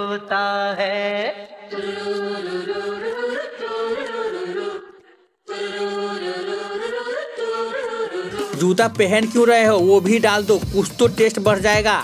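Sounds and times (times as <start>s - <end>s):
wordless vocal melody: 0.0s - 12.0s.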